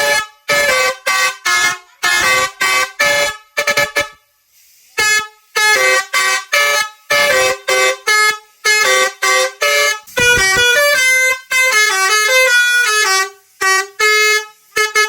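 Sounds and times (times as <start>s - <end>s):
horn playing pitched toots: 0.0s - 4.2s, 5.0s - 15.0s.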